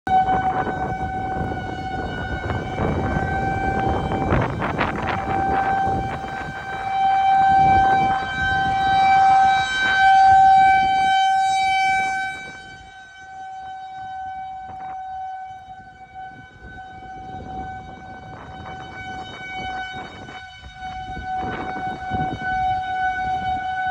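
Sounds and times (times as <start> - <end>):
warning siren steady tone: 0.0 - 23.9.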